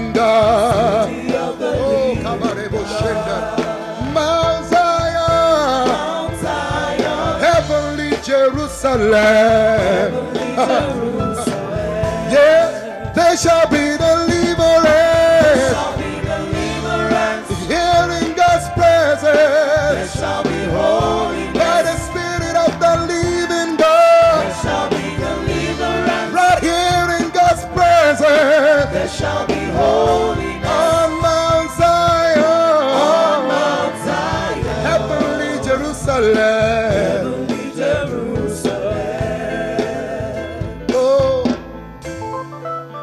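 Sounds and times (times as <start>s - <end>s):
gospel singing: 0.0s - 42.2s
band playing with drums: 0.0s - 42.4s.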